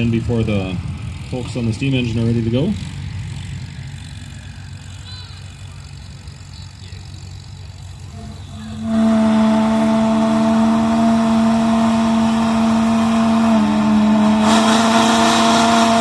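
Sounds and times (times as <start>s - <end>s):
tractor engine at full throttle: 0.0s - 16.0s.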